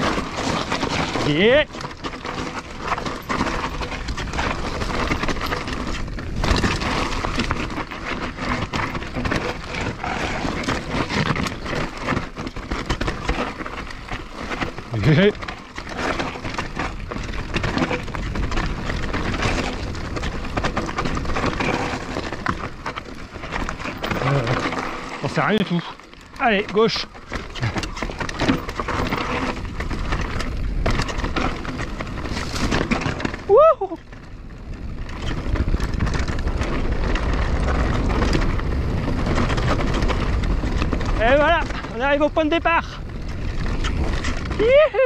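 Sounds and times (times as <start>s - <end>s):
bike rattling: 0.0s - 45.0s
tyres crunching over stones: 0.0s - 45.0s
wind rumble on microphone: 0.0s - 45.0s.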